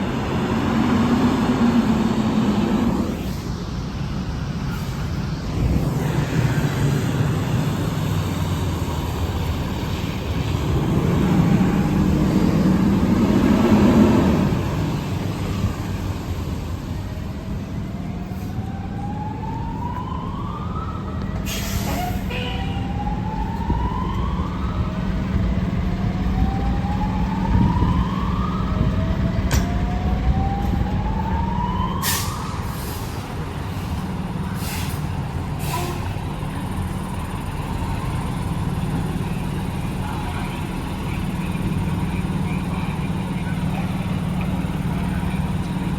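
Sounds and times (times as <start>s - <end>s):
diesel engine running: 0.0s - 20.0s, 22.9s - 45.9s
fire truck siren: 0.0s - 45.9s.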